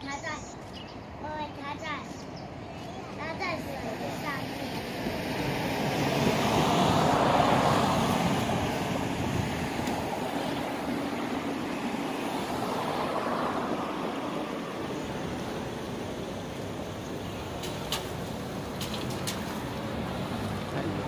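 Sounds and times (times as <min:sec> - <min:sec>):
vehicle engine rushing: 0:04.0 - 0:21.0.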